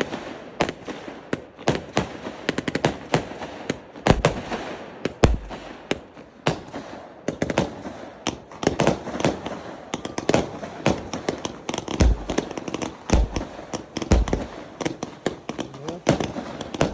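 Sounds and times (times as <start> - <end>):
deep fireworks booms: 0.0 - 16.9
fireworks bangs and crackling: 0.0 - 16.9.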